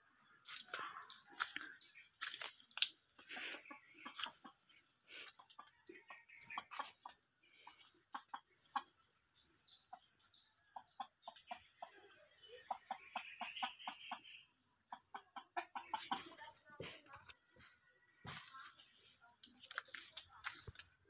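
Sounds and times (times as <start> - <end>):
chicken clucking: 3.2 - 20.9.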